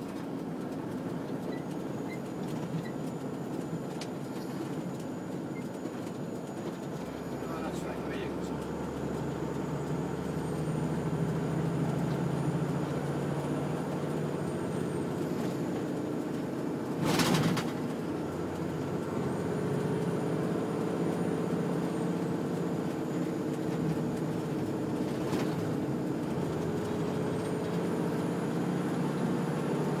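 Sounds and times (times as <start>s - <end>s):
engine and road noise in cab: 0.0s - 30.0s.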